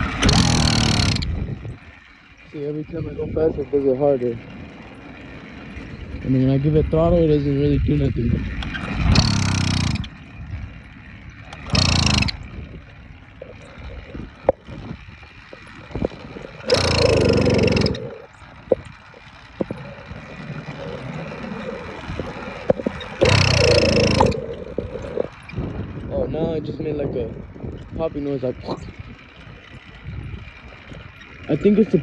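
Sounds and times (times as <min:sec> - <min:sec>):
small engine cranking without starting: 0:00.0 - 0:32.0.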